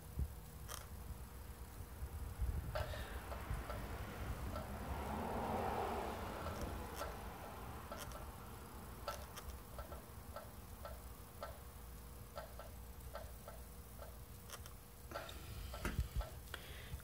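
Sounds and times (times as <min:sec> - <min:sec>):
faint steady hum: 0:00.0 - 0:17.0
low background rumble: 0:00.0 - 0:17.0.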